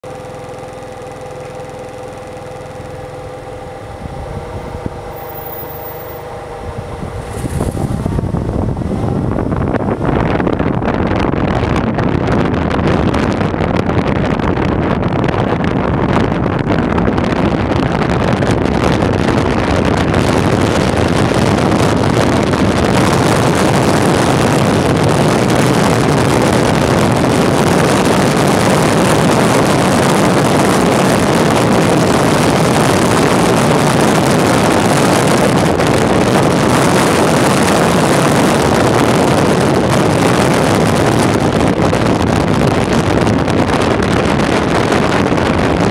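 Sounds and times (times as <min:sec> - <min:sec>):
wheels rolling on asphalt: 0:00.0 - 0:45.9
wind buffeting microphone: 0:00.2 - 0:45.9.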